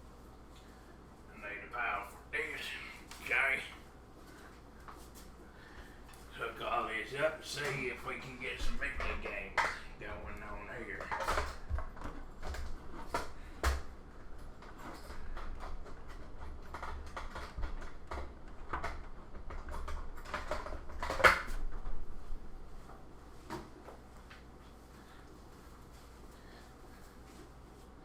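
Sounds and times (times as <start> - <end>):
cables and plugs clicking and rattling: 2.2 - 27.5.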